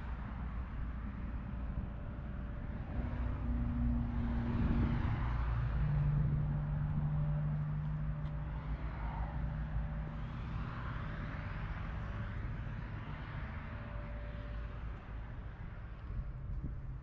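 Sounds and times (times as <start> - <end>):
distant engine droning: 0.0 - 17.0.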